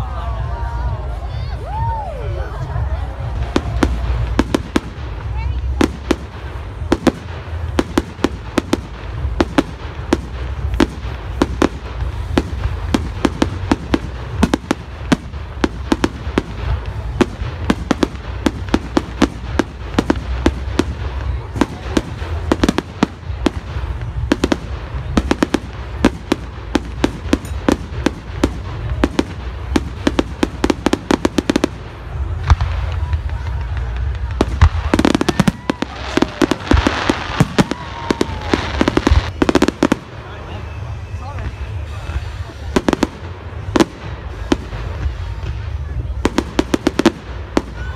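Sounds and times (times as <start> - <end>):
fireworks bangs: 0.0 - 47.9
low rumble: 0.0 - 47.9.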